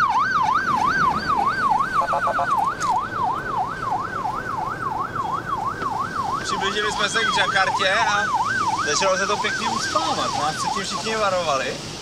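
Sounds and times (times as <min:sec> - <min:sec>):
police siren yelping: 0:00.0 - 0:11.7
road and engine noise: 0:00.0 - 0:12.0.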